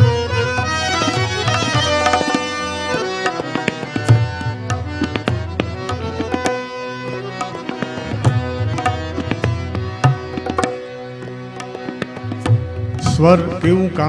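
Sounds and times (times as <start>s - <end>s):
held harmonium notes: 0.0s - 14.0s
tabla strokes: 0.0s - 14.0s.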